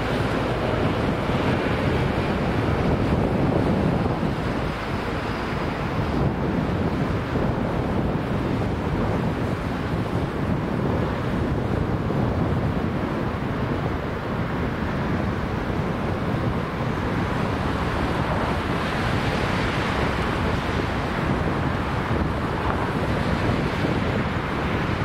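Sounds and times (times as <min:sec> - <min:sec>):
road traffic: 0:00.0 - 0:25.0
wind rumble on microphone: 0:00.0 - 0:25.0.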